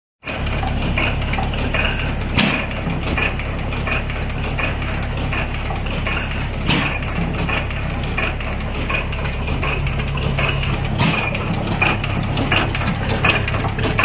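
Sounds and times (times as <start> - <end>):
valve gear clicking and clatter: 0.2 - 14.0.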